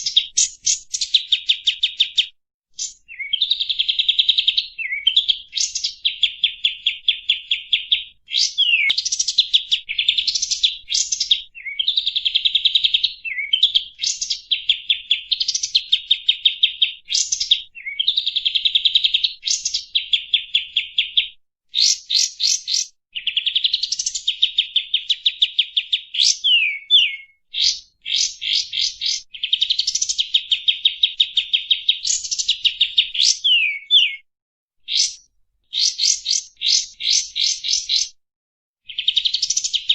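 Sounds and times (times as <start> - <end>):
bird chattering song: 0.0 - 34.2, 34.9 - 38.2, 38.9 - 39.9
upward-sweeping bird whistles: 0.0 - 38.2.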